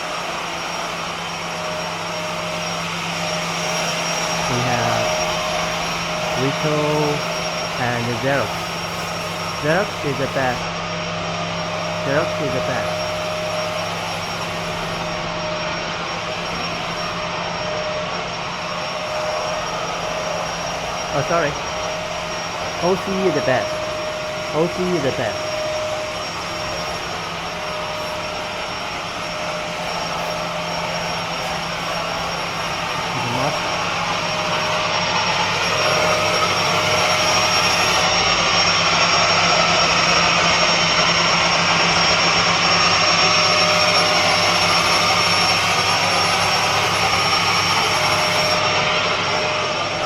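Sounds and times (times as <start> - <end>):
factory machinery whirring: 0.0 - 50.0
high whine: 0.0 - 50.0.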